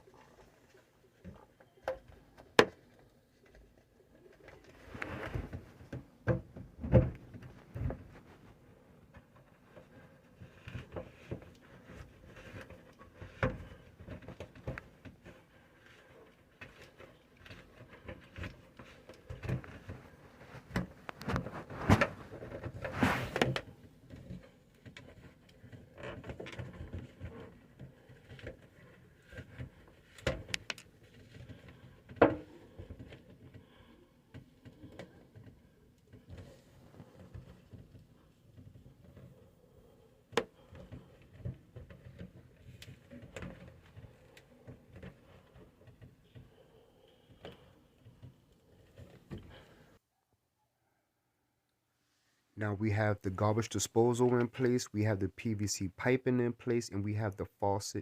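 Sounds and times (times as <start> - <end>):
plastic pipes knocking and clicking: 1.2 - 8.3, 9.1 - 49.8.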